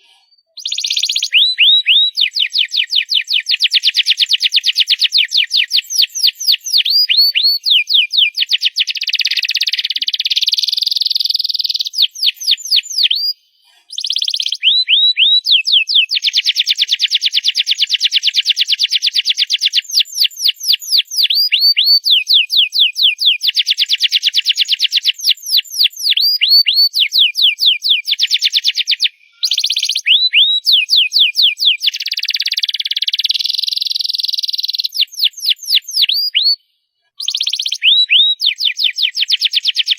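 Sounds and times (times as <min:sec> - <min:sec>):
canary singing trills: 0:00.0 - 0:36.6, 0:37.2 - 0:39.9.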